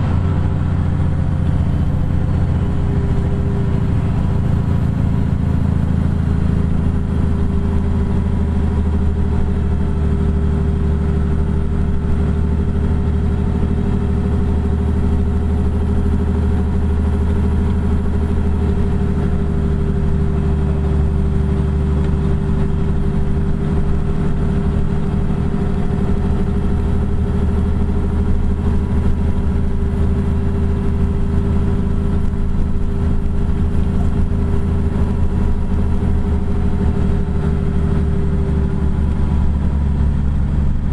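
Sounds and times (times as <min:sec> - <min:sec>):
road noise: 0:00.0 - 0:40.9
truck diesel engine hum: 0:00.0 - 0:40.9.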